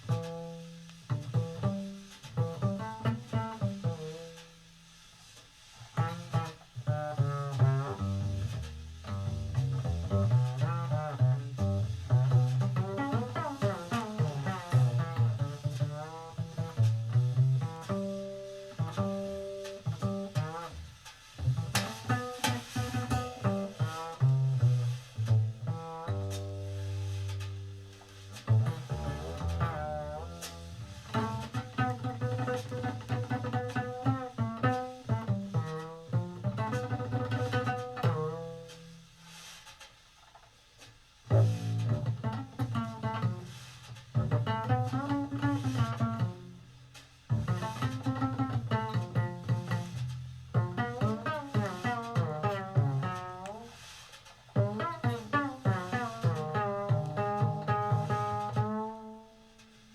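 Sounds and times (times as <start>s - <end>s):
jazz double bass: 0.0s - 59.9s.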